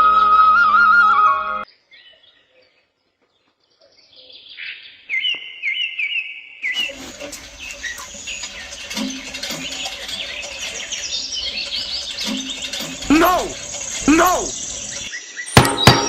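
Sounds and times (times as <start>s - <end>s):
bird chirping: 1.7s - 16.0s
chorus of many birds: 1.7s - 16.0s.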